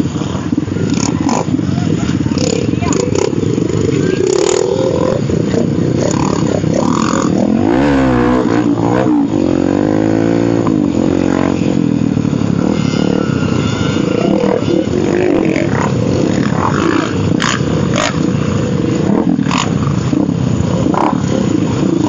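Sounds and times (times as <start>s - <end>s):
dirt bike engine revving: 0.0s - 22.0s
dirt bike engines rumbling: 0.0s - 22.0s.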